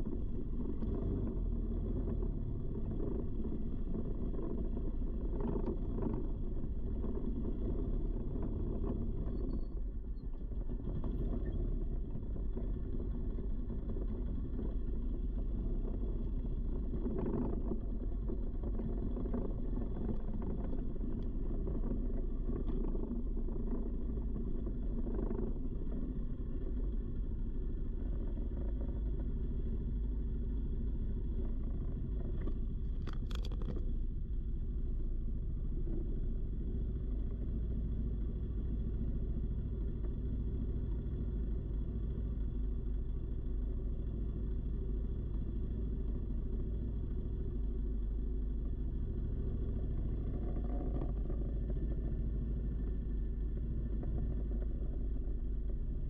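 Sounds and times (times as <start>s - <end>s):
off-road vehicle engine rumble: 0.0s - 56.0s.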